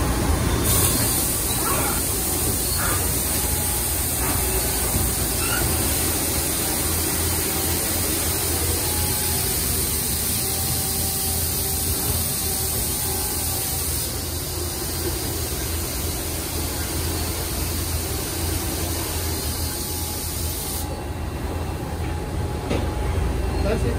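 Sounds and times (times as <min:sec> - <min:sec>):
machine hiss: 0:00.0 - 0:21.1.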